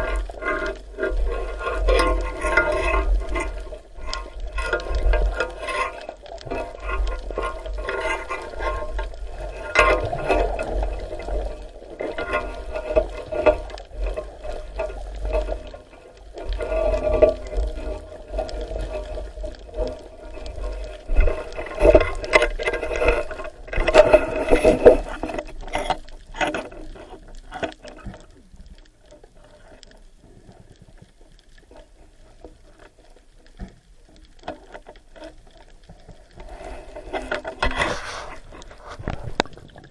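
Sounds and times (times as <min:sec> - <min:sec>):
small ticks: 0:00.0 - 0:37.8
water splashing and bubbling: 0:00.0 - 0:39.9.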